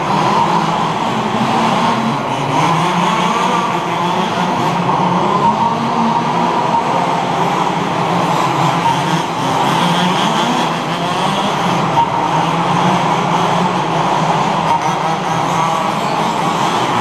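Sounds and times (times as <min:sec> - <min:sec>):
rc buggy engines racing: 0:00.0 - 0:17.0.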